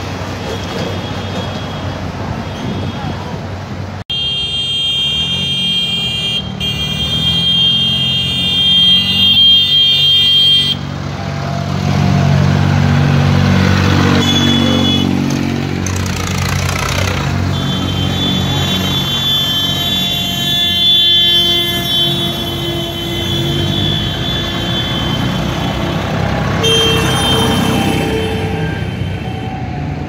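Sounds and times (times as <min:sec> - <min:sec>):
tractor diesel engines: 0:00.0 - 0:30.0.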